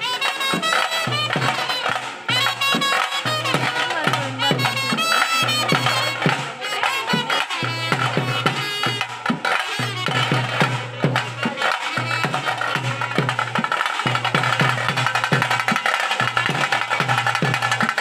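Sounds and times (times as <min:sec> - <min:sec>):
drums beaten with sticks: 0:00.0 - 0:18.0.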